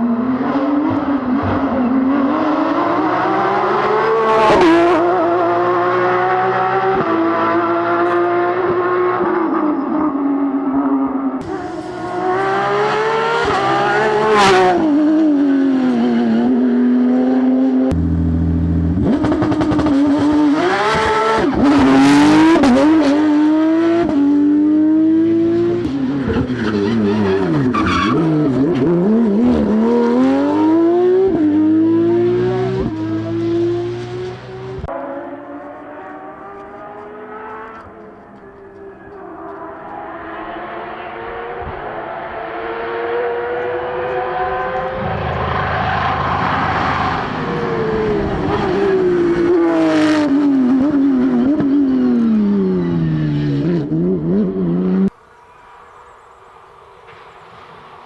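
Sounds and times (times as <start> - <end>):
rally car engine revving: 0.0 - 10.2, 10.8 - 55.2.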